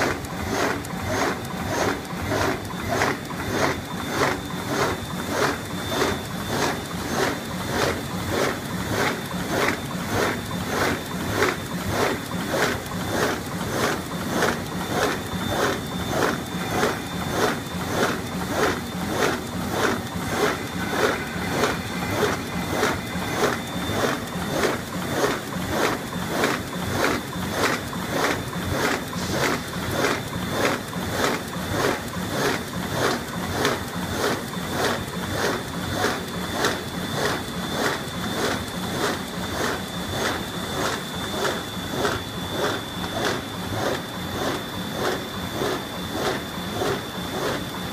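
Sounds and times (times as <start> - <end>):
machine clattering: 0.0 - 47.9
machine whine: 0.0 - 47.9.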